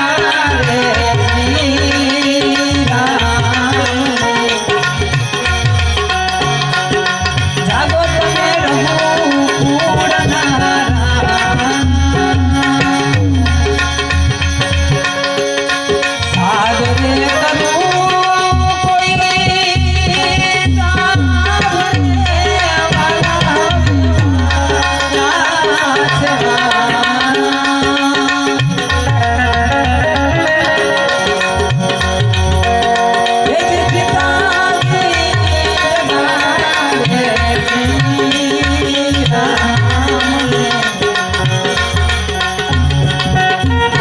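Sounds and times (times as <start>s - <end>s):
hand drum rhythm: 0.0s - 44.0s
harmonium melody: 0.0s - 44.0s.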